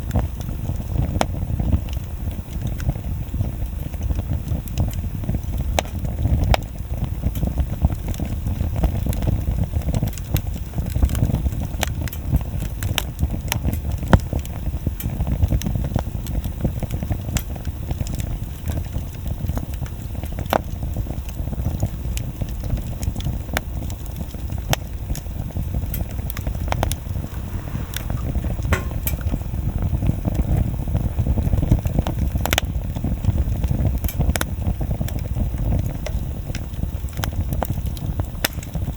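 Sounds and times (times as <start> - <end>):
fire crackling and popping: 0.0 - 38.9
low rumble of flame: 0.0 - 38.9.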